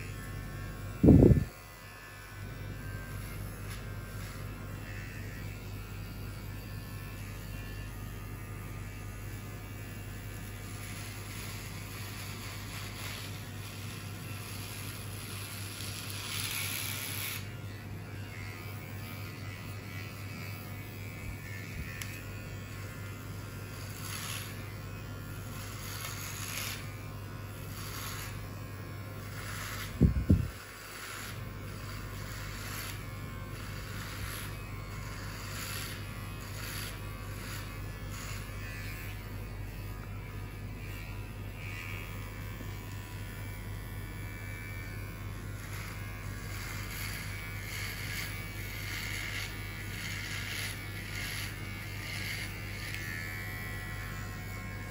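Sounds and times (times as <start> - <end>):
electric hair clippers buzzing: 0.0 - 54.9.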